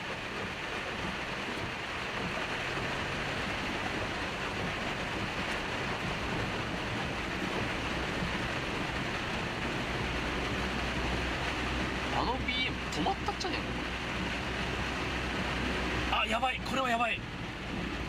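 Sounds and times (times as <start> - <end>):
car engine hum: 0.0 - 18.0
floodwater rushing: 0.0 - 18.0
heavy rain: 0.0 - 18.0.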